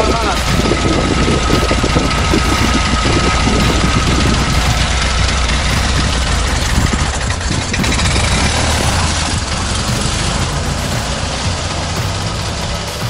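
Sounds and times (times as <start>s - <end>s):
buggy engine running: 0.0s - 13.0s.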